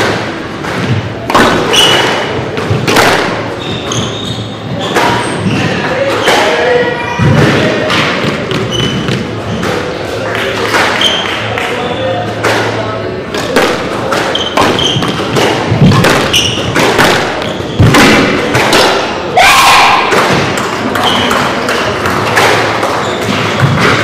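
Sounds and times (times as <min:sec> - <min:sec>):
squash ball hitting walls: 0:00.0 - 0:09.9, 0:12.4 - 0:24.0.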